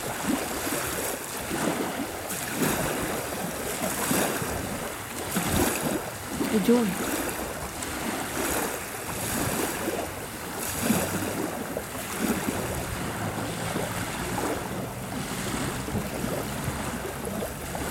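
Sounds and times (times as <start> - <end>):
waves lapping on a sandy shore: 0.0 - 17.9
wind rumble on microphone: 0.0 - 17.9.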